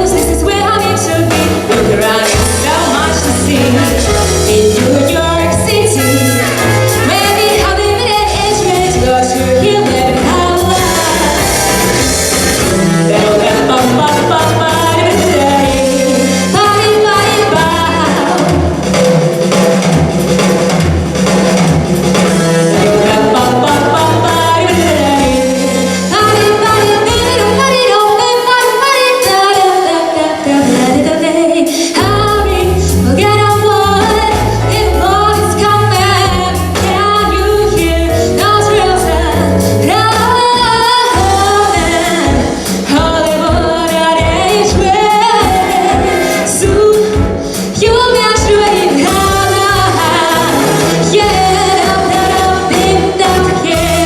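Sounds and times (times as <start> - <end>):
woman singing swing jazz: 0.0 - 19.0, 22.1 - 54.0
bass and drums: 0.0 - 54.0.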